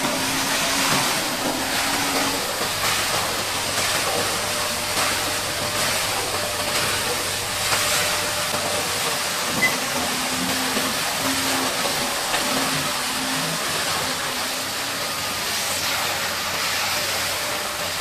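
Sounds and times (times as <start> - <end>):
low machine hum: 0.0 - 15.7
water jet spraying metal: 0.0 - 18.0.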